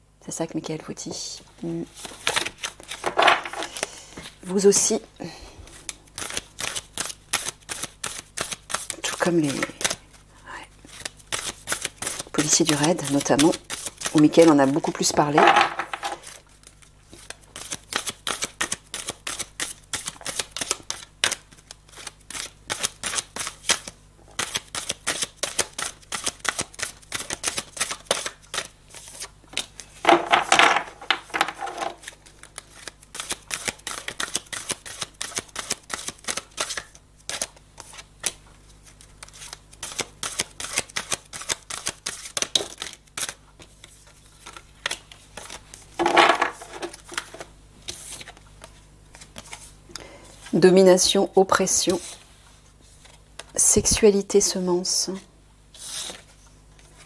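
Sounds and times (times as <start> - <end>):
cards being shuffled: 1.9 - 4.9, 5.7 - 50.6, 55.8 - 57.0.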